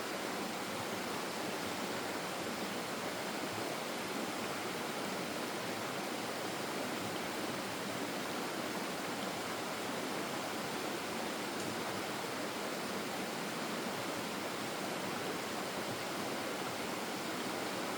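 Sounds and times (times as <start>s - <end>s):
stream water flowing: 0.0s - 17.9s.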